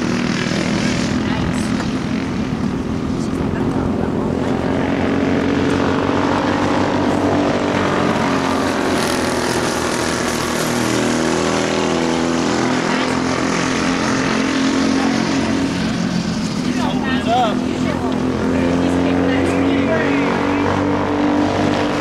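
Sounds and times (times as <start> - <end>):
racing kart engines at high revs: 0.0 - 22.0.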